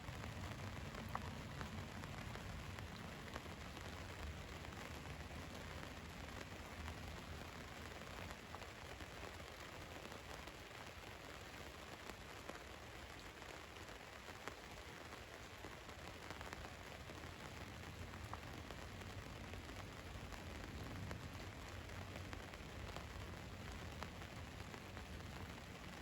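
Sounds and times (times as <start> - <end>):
rain on a vehicle roof: 0.0 - 26.0.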